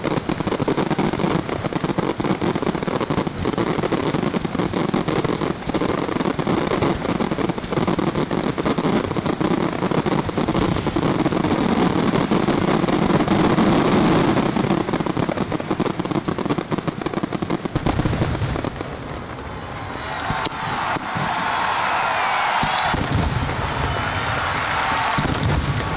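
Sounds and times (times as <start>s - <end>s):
fireworks bangs and crackle: 0.0s - 25.9s.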